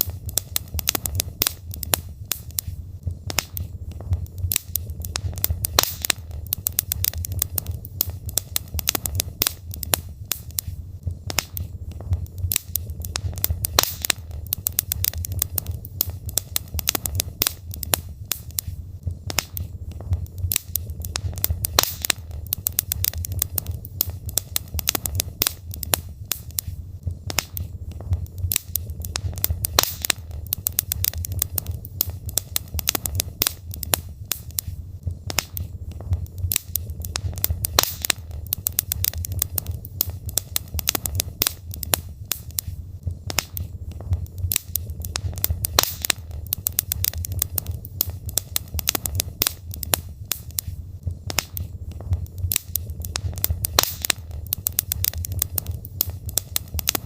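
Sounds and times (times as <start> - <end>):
low rumble of flames: 0.0 - 57.0
wood logs crackling and popping: 0.0 - 57.0.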